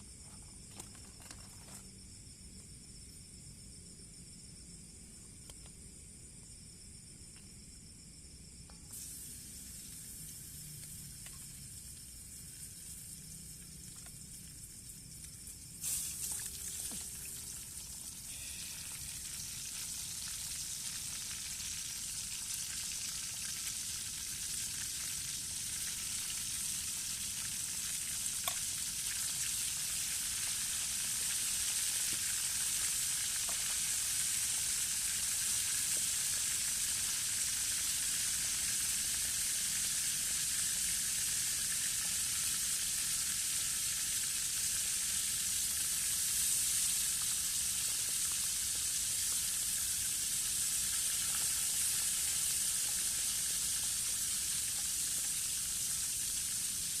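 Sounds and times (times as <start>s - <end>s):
fish sizzling in hot oil: 8.9s - 57.0s.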